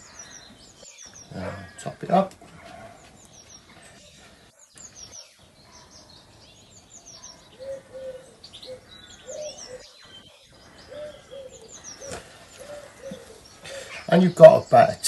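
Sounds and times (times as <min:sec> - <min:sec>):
lower bird call: 0:00.0 - 0:14.2
high falling bird chirps: 0:00.0 - 0:15.0.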